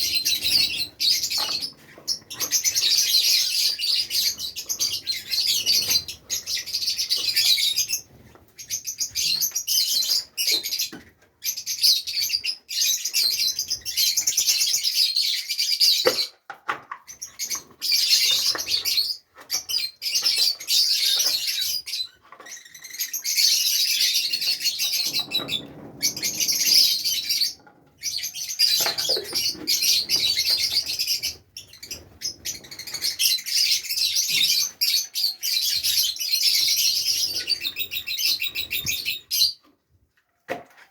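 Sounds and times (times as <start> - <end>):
lovebirds chirping and chattering: 0.0 - 39.8.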